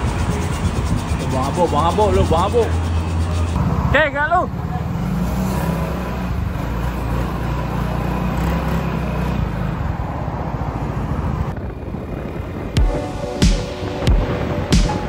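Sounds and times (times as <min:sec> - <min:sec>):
scooter engine running: 0:00.0 - 0:03.9, 0:04.5 - 0:13.2.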